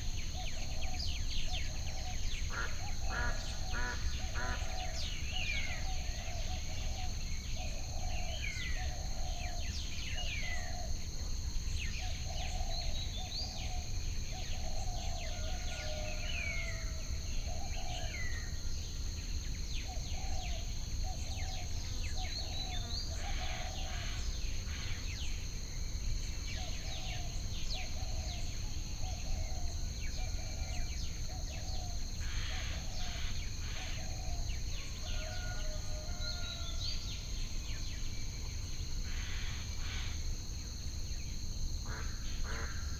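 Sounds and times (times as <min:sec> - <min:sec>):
high insect drone: 0:00.0 - 0:42.9.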